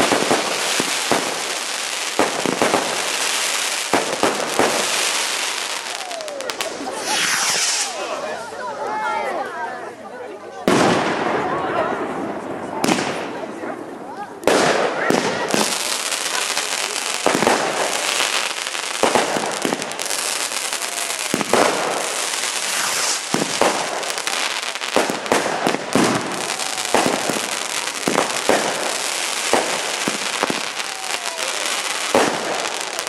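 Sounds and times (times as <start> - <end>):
fireworks bangs: 0.0 - 8.4, 10.6 - 33.0
fireworks crackling: 0.0 - 9.1, 10.6 - 33.0.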